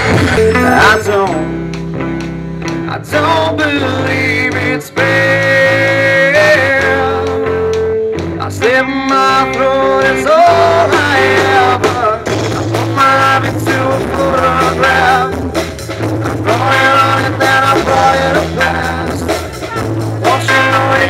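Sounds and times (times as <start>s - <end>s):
man singing: 0.0s - 1.6s, 2.8s - 15.6s, 16.4s - 21.0s
acoustic guitar: 0.0s - 21.0s
electric bass: 0.0s - 21.0s.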